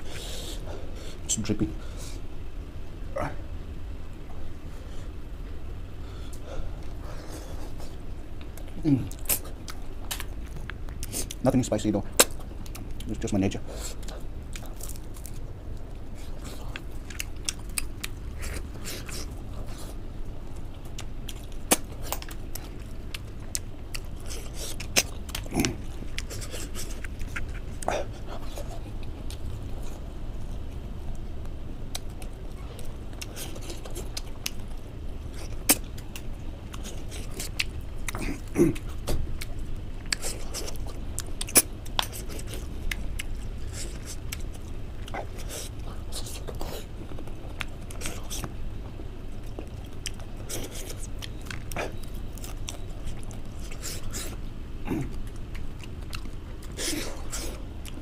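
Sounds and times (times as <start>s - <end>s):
person chewing with wet smacking: 6.2s - 58.0s.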